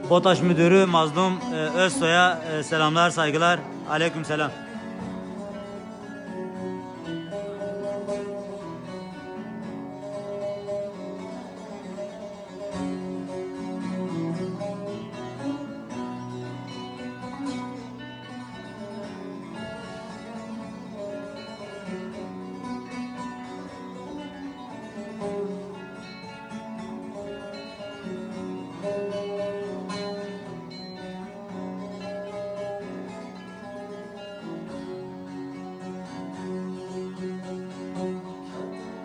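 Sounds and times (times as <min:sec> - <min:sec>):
acoustic guitar playing: 0:00.0 - 0:39.0
plucked string instrument: 0:00.0 - 0:39.0.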